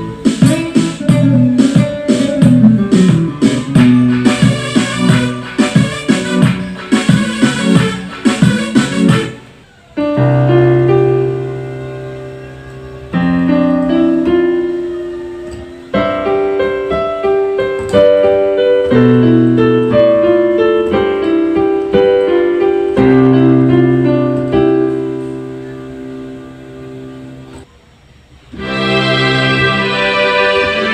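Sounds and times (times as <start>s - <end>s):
keyboard piano chords and melody: 0.0s - 27.7s, 28.5s - 30.9s.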